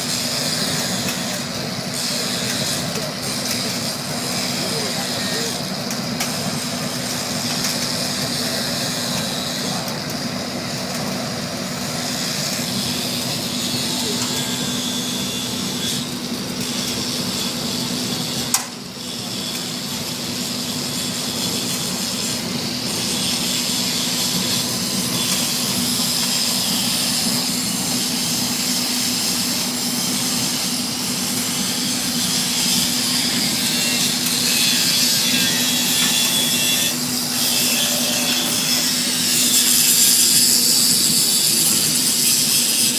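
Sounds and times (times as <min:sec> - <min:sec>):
burner flame and blower roar: 0:00.0 - 0:42.9.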